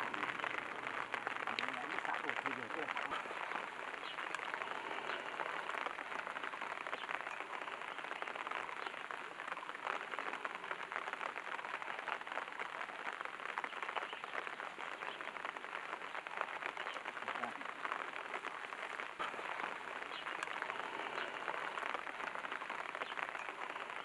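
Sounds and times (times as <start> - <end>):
rain patter: 0.0 - 24.0.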